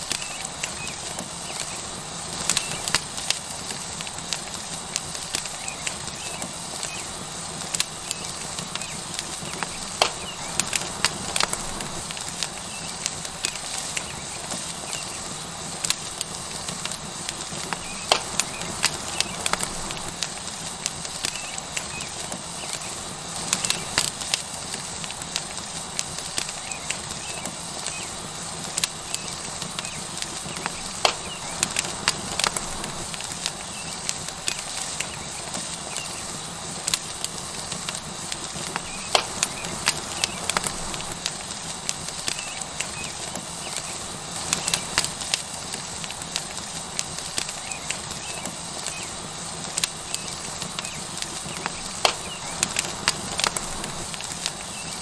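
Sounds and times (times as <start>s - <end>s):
fire crackling and popping: 0.0s - 55.0s
steak sizzling on hot stone: 0.0s - 55.0s.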